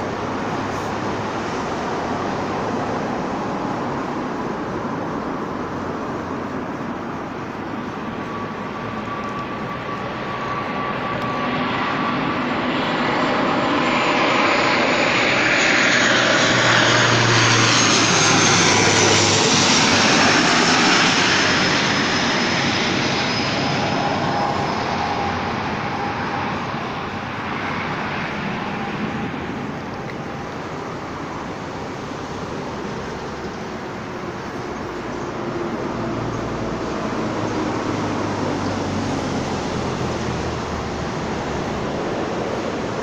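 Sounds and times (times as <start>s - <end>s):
airplane roar passing overhead: 0.0s - 43.0s.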